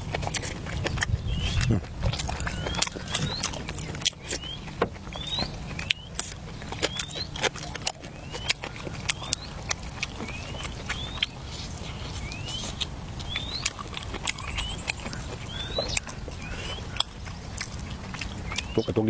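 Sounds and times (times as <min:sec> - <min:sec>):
animal chirping: 0:00.0 - 0:19.0.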